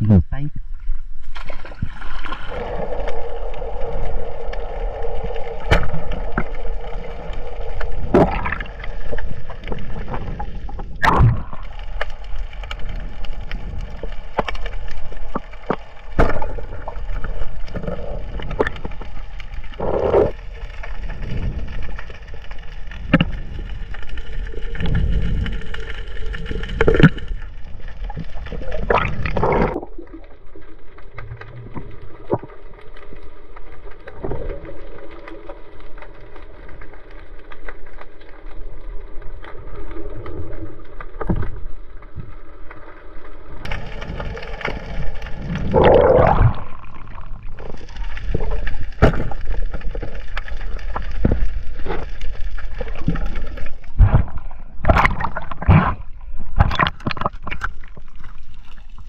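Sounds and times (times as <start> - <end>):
low rumble of moving water: 0.0 - 59.0.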